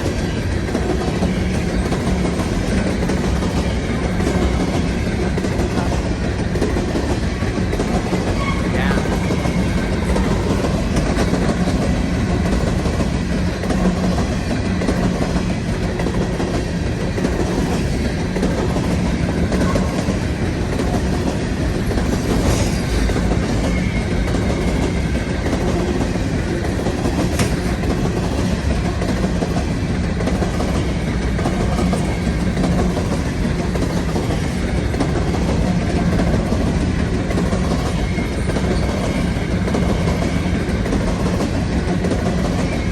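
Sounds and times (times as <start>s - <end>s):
freight train rolling past: 0.0s - 42.9s
steel wheels on rails: 0.0s - 42.9s.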